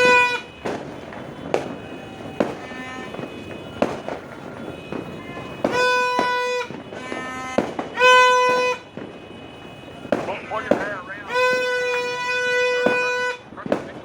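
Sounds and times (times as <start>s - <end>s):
firecrackers banging: 0.0s - 14.0s
horn steady note: 0.0s - 14.0s.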